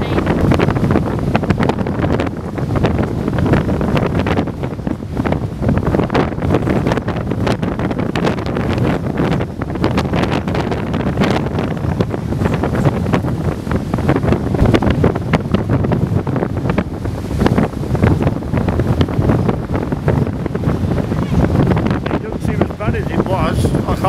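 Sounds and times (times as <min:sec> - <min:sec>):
heavy breaking surf: 0:00.0 - 0:24.0
wind buffeting microphone: 0:00.0 - 0:24.0.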